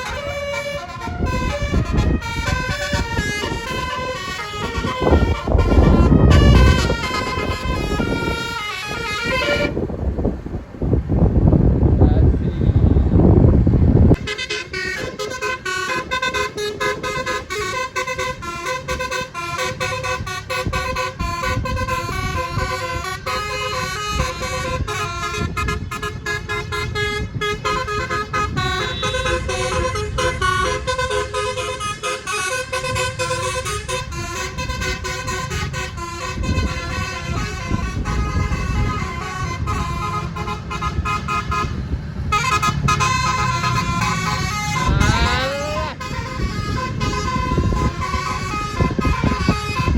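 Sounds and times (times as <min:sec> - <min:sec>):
bus horn playing melodic notes: 0:00.0 - 0:10.4, 0:14.1 - 0:49.9
bus engine running: 0:00.0 - 0:49.9.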